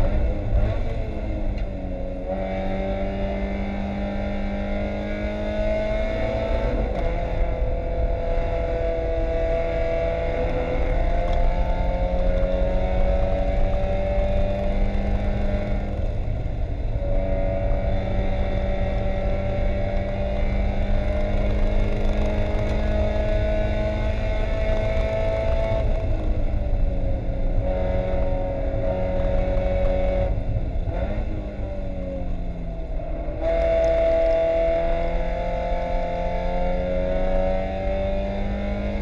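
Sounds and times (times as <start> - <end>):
race car engine at full throttle: 0.0 - 39.0.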